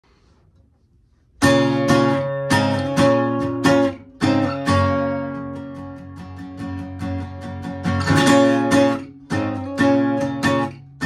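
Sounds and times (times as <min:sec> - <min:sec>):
acoustic guitar strumming chords: 0:01.4 - 0:11.0.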